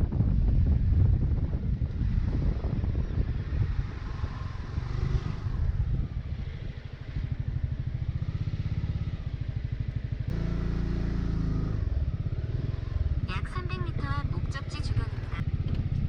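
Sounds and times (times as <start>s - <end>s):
scooter engine running: 1.6s - 16.0s.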